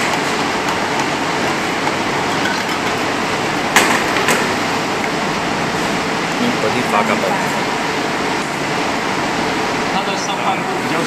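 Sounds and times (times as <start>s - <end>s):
ventilation unit running: 0.0s - 11.0s.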